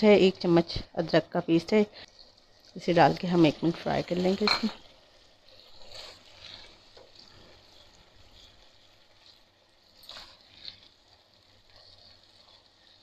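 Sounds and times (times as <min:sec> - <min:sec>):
masala frying in oil: 0:00.0 - 0:13.0
spatula stirring wet mixture: 0:01.4 - 0:13.0.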